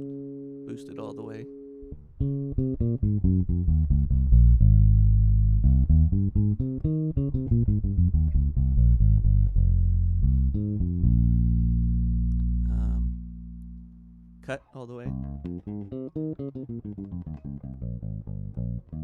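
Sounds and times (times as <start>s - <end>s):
electric bass plucked notes: 0.0s - 19.0s.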